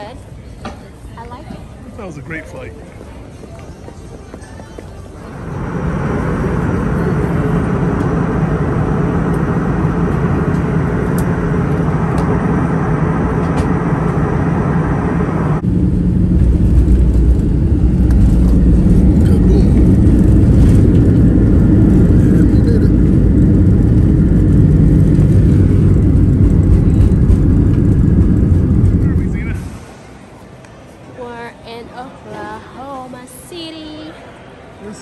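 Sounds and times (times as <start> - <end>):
jet airliner cabin noise: 0.0 - 34.7.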